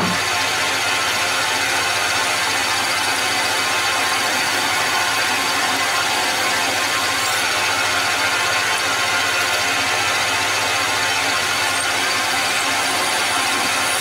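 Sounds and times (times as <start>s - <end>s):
metal lathe drilling: 0.0s - 14.0s.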